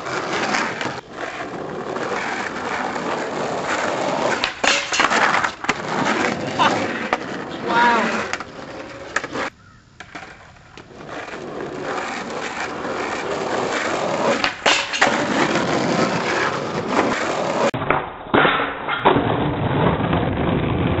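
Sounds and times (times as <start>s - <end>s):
skateboard clacks: 0.0s - 21.0s
skateboard wheels rolling on asphalt: 0.0s - 21.0s.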